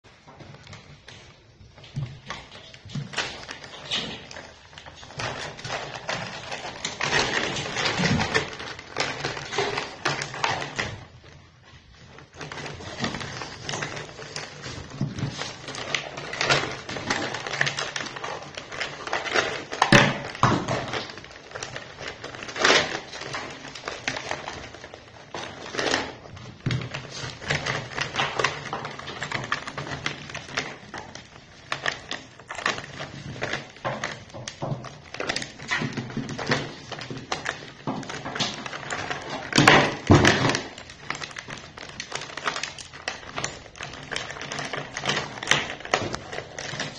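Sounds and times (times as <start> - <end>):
ice cubes clattering in plastic basin: 1.0 - 46.9.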